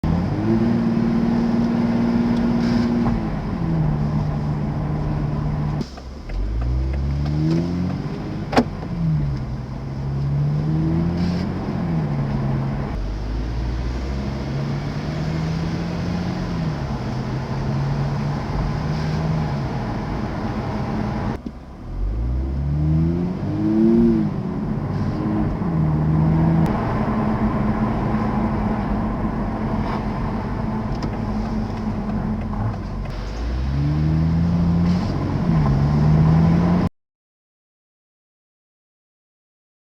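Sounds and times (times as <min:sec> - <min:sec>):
car accelerating and shifting gears: 0:00.0 - 0:36.9.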